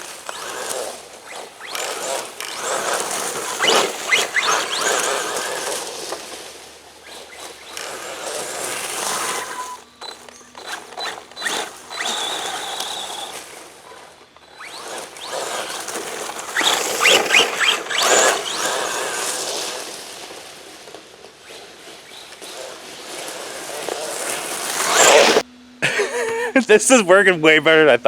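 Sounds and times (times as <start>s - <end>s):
chain tyres scraping and rattling: 0.0s - 25.4s
electric motor whine: 0.0s - 27.8s.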